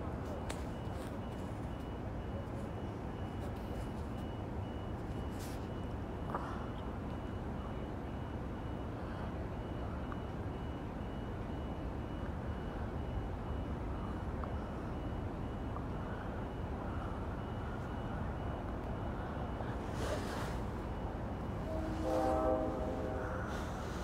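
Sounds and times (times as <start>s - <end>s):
low rumble of rail line: 0.0s - 24.0s
faint high-pitched electronic beep: 0.3s - 19.8s.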